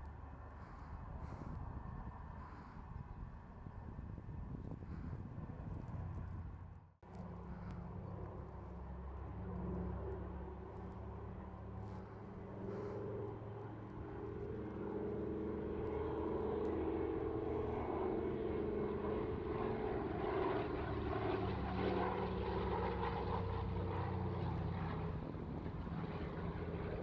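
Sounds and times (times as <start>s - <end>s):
propeller plane engines droning: 0.0s - 27.0s.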